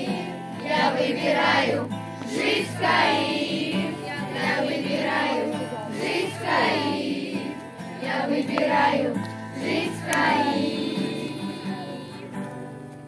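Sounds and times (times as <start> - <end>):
group of voices singing: 0.0 - 12.8.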